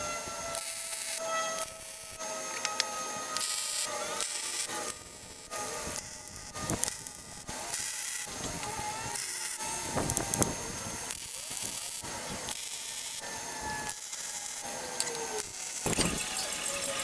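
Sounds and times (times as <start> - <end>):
small power tool on metal: 0.0 - 17.0.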